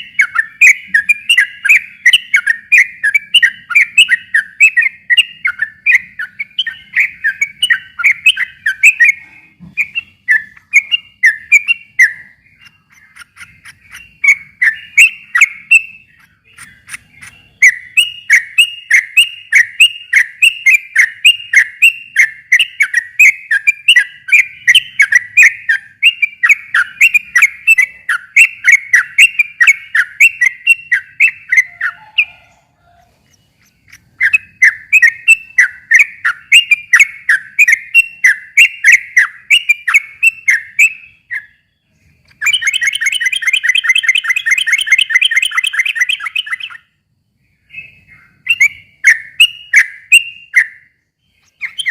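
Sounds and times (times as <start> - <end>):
bulbul chirping song: 0.0 - 51.9.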